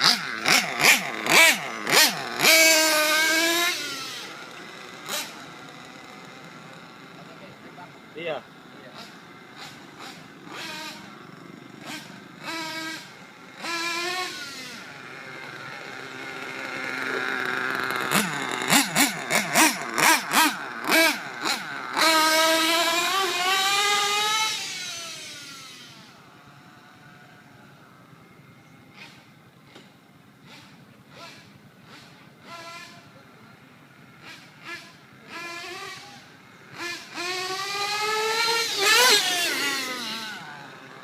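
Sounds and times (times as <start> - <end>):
nitro engine revving: 0.0 - 41.0.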